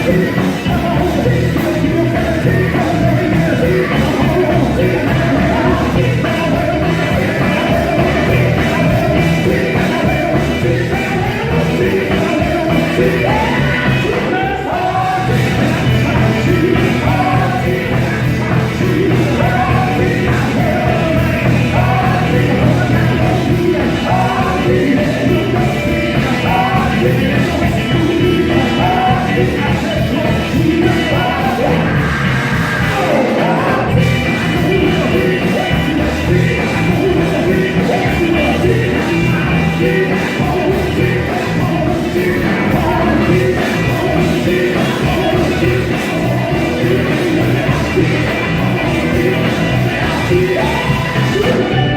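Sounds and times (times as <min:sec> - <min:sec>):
band with bass and drums: 0:00.0 - 0:51.9
lead and group singing: 0:00.0 - 0:51.9.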